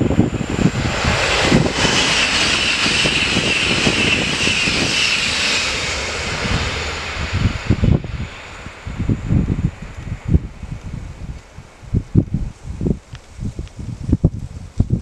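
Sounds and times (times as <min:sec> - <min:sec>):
high-speed train passing: 0:00.0 - 0:12.6.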